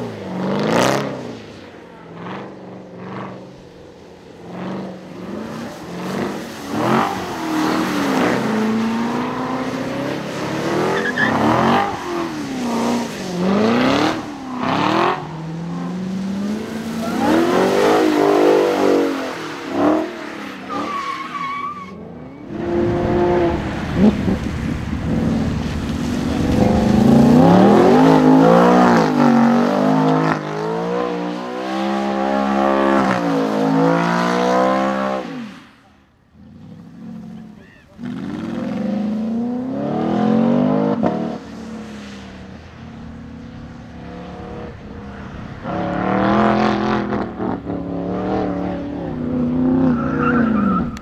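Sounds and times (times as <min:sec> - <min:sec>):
sports car engines revving: 0:00.0 - 0:35.5, 0:36.2 - 0:51.0.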